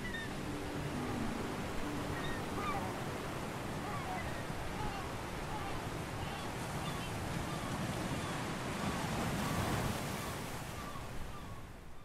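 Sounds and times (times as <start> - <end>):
ocean waves washing onto beach: 0.0 - 11.8.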